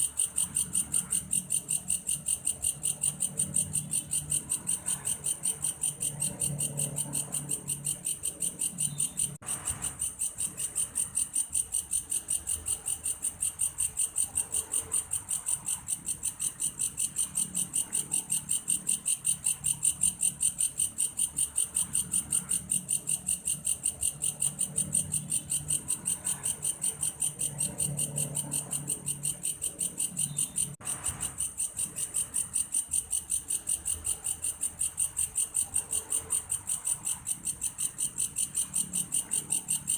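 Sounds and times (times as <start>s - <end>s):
grasshopper calling: 0.0s - 39.9s.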